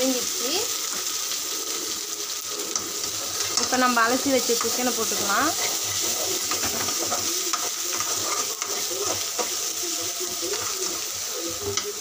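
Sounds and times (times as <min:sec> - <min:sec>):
chicken sizzling in a pan: 0:00.0 - 0:12.0
metal spoon scraping a pan: 0:02.3 - 0:12.0.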